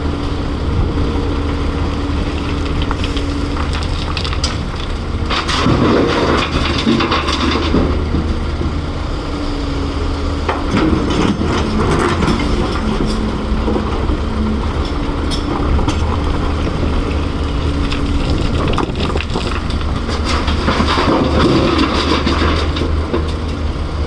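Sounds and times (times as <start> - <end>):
excavator engine under load: 0.0 - 24.0
rock and dirt clattering: 0.0 - 24.0.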